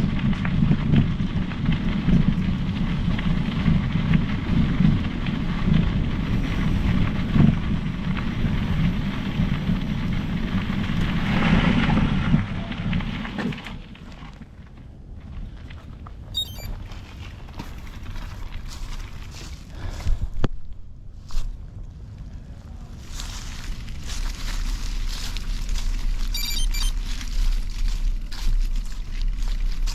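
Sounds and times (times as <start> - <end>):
bike tyre noise on trail: 0.0 - 29.9
wind rumble on microphone: 0.0 - 29.9.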